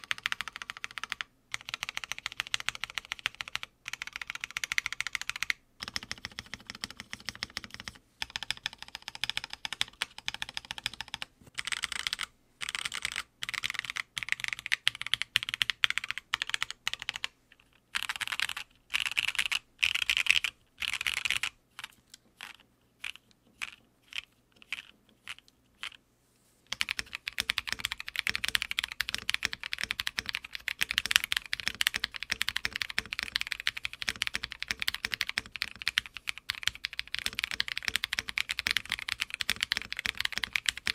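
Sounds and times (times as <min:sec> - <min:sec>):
mechanical keyboard typing: 0:00.0 - 0:17.3, 0:17.9 - 0:26.0, 0:26.7 - 0:40.9.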